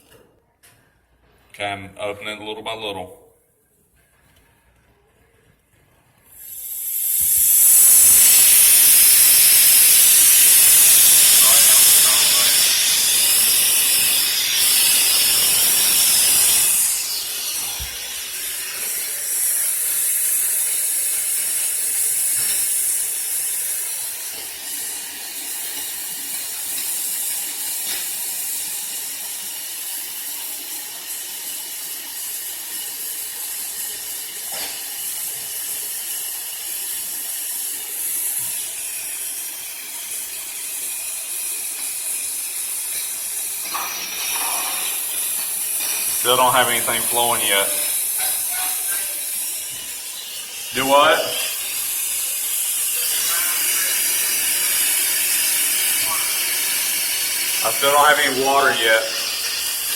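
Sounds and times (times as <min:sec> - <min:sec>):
compressed air hissing from pipe: 0:06.3 - 0:59.9.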